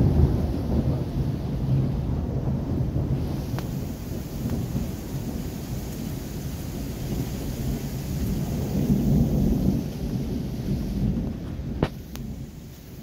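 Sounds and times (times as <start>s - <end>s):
heavy rain hissing: 0.0s - 13.0s
thunder rumbling: 0.0s - 13.0s.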